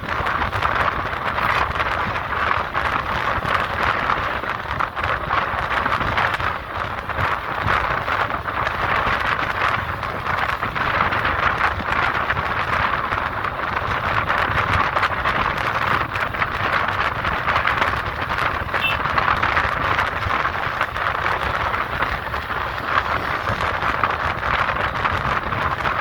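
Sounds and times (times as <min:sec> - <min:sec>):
road traffic noise: 0:00.0 - 0:26.0
wind on microphone: 0:00.0 - 0:26.0.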